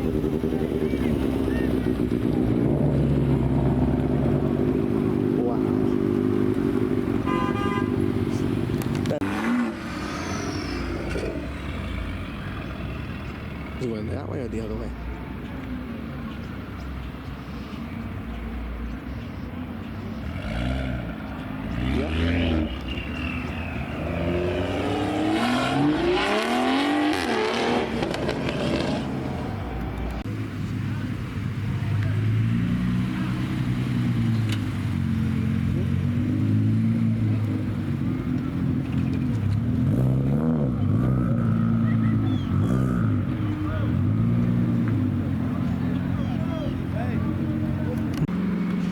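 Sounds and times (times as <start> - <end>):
car engine revving: 0.0 - 13.8, 20.0 - 31.0, 31.9 - 48.9.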